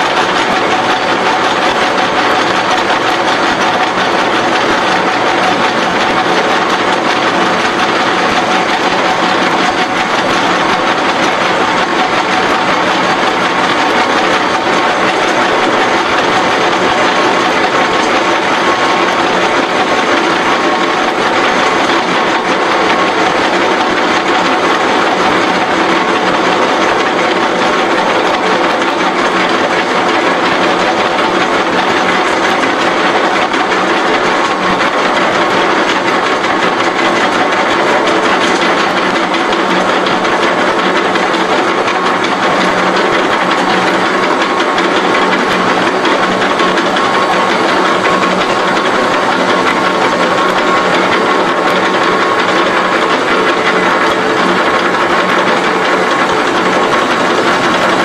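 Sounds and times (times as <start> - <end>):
machine motor hum: 0.0 - 58.0.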